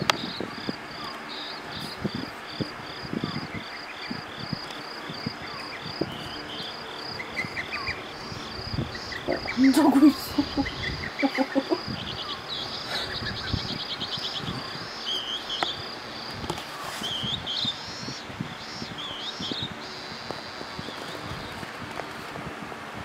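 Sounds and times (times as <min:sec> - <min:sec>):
small birds chirping: 0:00.0 - 0:22.3
electric fan hiss: 0:00.0 - 0:23.0.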